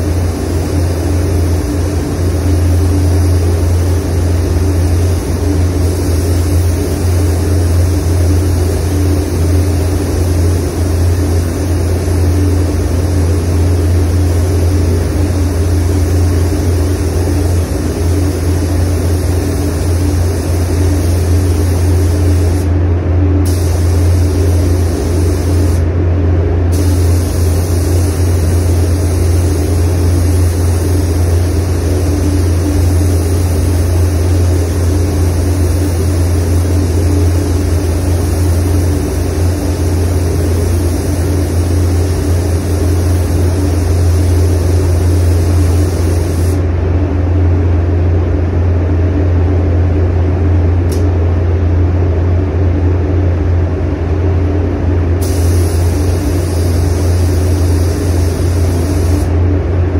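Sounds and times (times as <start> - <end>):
spray gun hissing: 0.0 - 22.7, 23.4 - 25.9, 26.7 - 46.6, 55.2 - 59.3
low hum of air system: 0.0 - 59.9.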